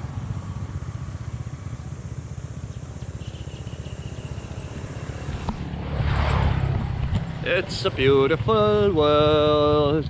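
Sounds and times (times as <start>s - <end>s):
motorbike engine running: 0.0s - 5.7s, 6.6s - 10.0s.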